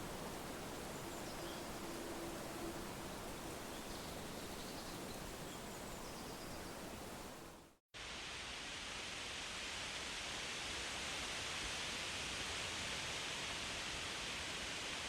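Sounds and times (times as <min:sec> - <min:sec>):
wind rustling through leaves: 0:00.0 - 0:15.0.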